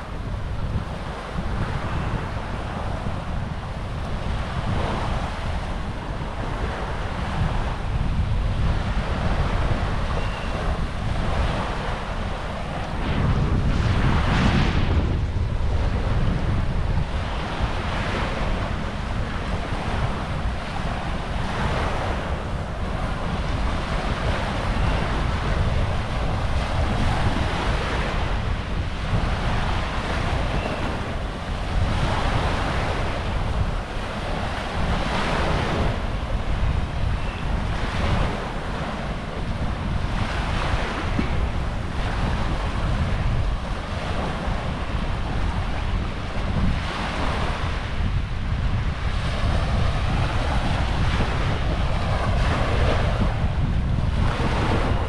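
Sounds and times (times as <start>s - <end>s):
small waves breaking on shore: 0.0s - 55.0s
wind buffeting microphone: 0.0s - 55.0s.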